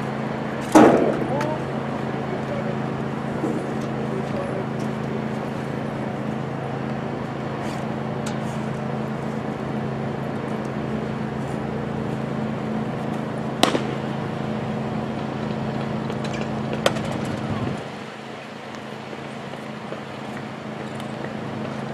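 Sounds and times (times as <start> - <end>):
low motor hum: 0.0 - 21.9.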